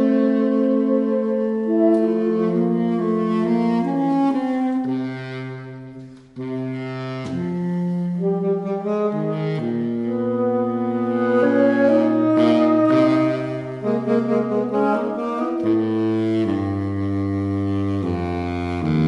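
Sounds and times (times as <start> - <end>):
saxophone trio playing chords: 0.0 - 19.0.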